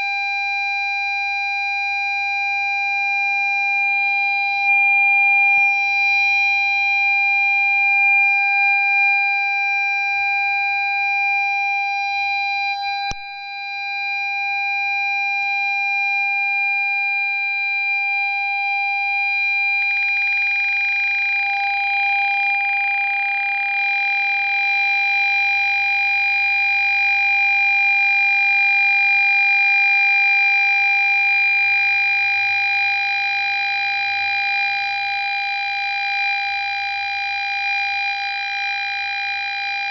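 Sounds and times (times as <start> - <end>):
continuous parking sensor beep: 0.0 - 39.9.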